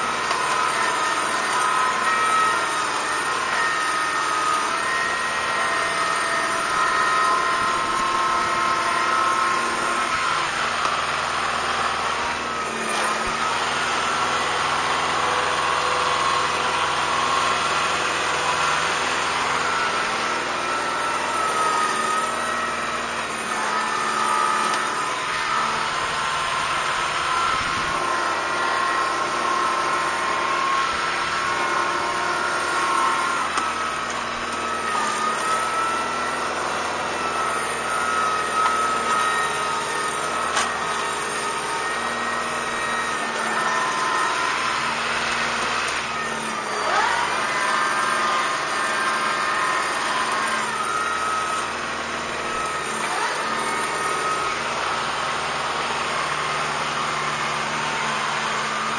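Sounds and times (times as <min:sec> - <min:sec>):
blade dragging through dirt: 0:00.0 - 0:58.0
tractor diesel engine running: 0:00.0 - 0:58.9.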